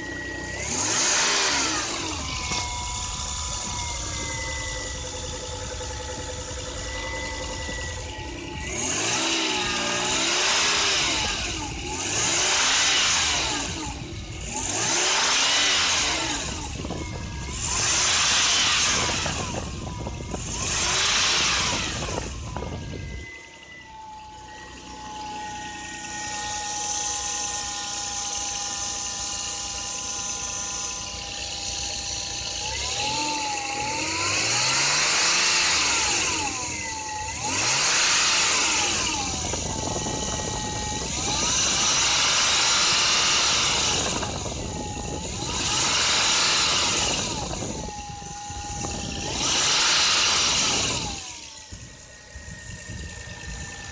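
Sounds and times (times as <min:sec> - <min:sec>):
car engine revving: 0:00.0 - 0:48.0, 0:48.6 - 0:51.6
engine whine at idle: 0:00.0 - 0:53.9.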